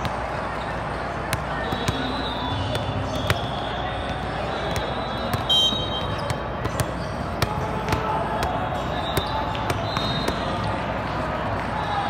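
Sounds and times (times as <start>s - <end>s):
crowd chatter: 0.0s - 12.0s
volleyballs hit and bouncing: 0.0s - 12.0s.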